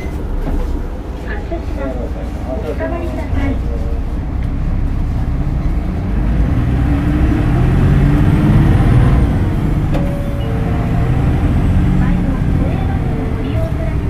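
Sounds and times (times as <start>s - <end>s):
bus engine pulling: 0.0s - 14.0s.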